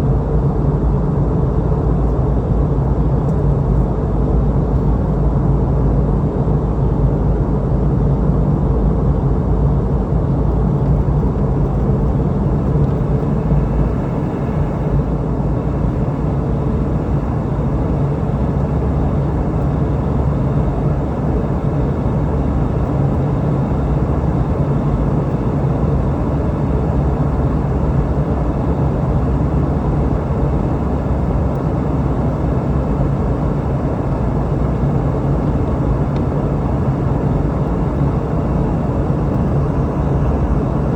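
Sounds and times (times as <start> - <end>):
jet engine drone: 0.0 - 40.9.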